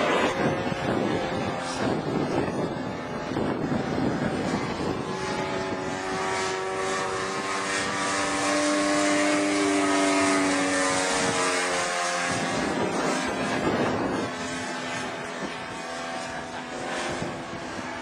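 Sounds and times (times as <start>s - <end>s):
model plane engine passing overhead: 0.0s - 18.0s.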